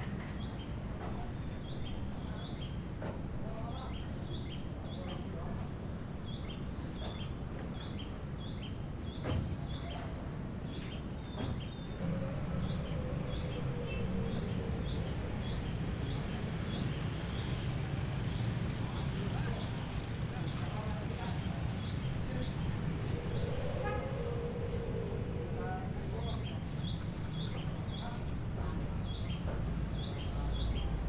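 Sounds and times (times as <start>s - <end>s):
small birds chirping: 0.3s - 31.0s.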